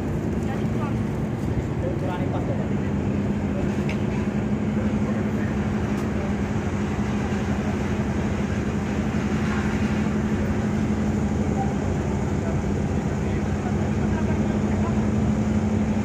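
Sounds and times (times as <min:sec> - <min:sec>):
ship engine drone: 0:00.0 - 0:16.0.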